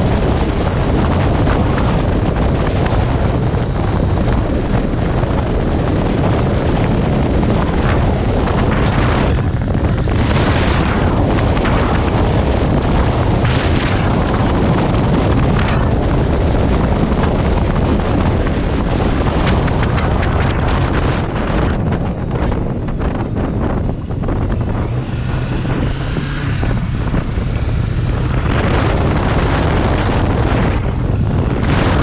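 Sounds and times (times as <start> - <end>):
motorcycle engine: 0.0 - 32.0
wind buffeting microphone: 0.0 - 32.0.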